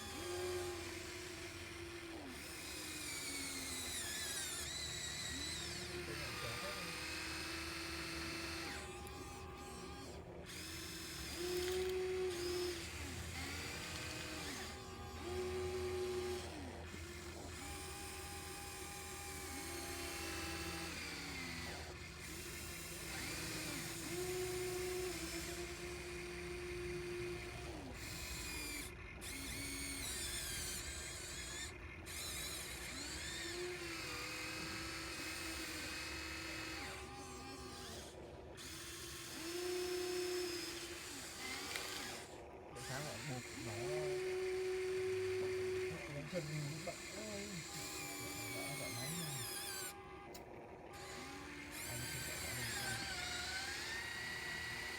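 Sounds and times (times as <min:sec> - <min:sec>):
small electric motors whining: 0:00.0 - 0:54.9.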